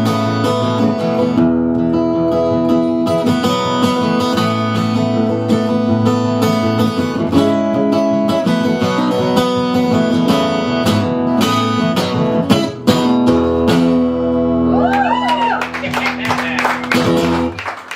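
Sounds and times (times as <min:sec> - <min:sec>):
acoustic guitar strumming: 0:00.0 - 0:14.7, 0:16.1 - 0:17.6.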